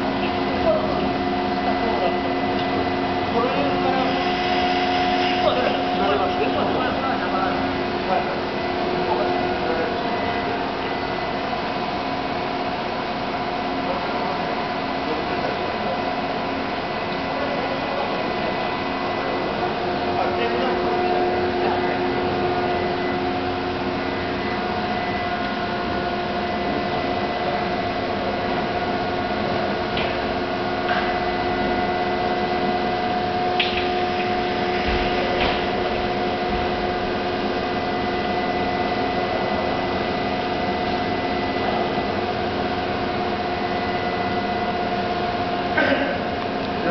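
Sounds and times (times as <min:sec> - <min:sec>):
machine tool humming and whining: 0:00.0 - 0:46.9.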